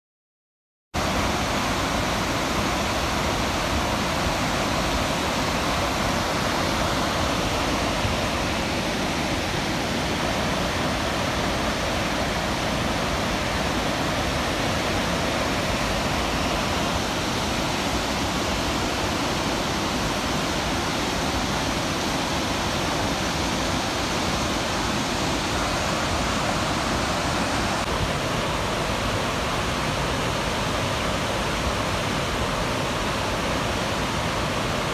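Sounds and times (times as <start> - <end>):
whitewater rushing: 1.0 - 34.9.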